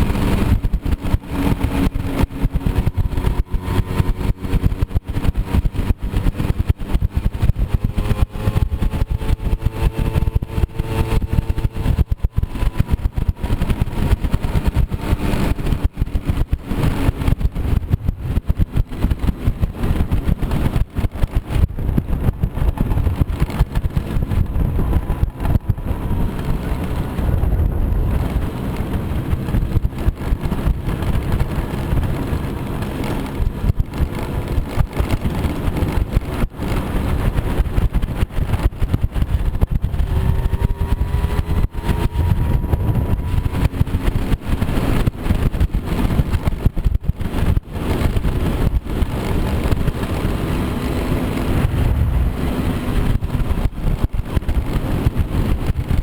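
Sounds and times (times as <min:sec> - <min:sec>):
moped engine running: 0:00.0 - 0:56.0
wind rumbling on microphone: 0:00.0 - 0:56.0.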